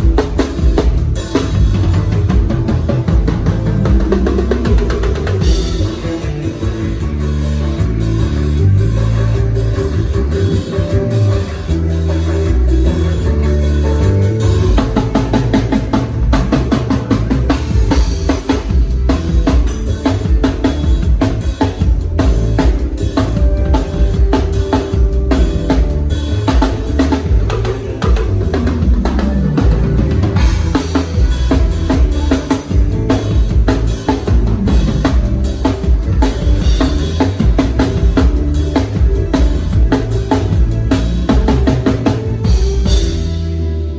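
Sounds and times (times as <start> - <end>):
bass guitar: 0.0 - 43.9
drum kit groove: 0.0 - 43.9.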